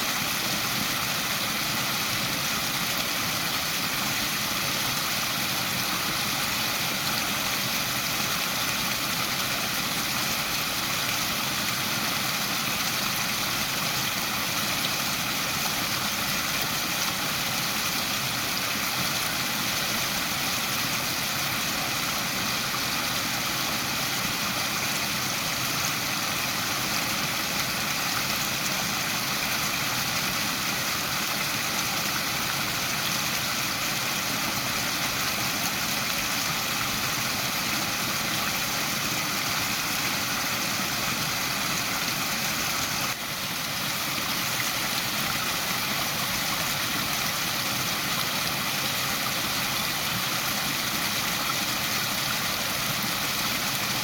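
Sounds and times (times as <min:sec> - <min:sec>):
small waterfall rushing: 0:00.0 - 0:54.0.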